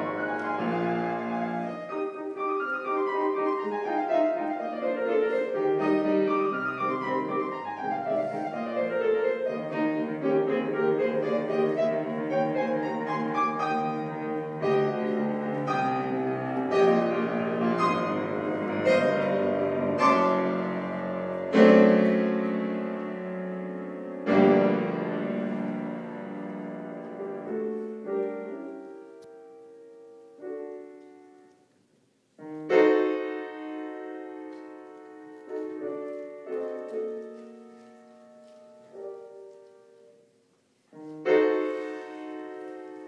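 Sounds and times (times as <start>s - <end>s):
classical piano solo: 0.0s - 43.0s.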